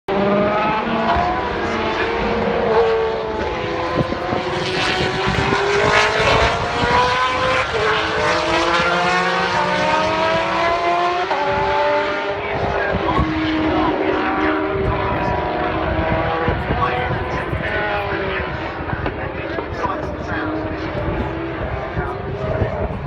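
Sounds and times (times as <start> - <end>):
racing car engines at high revs: 0.1 - 23.0.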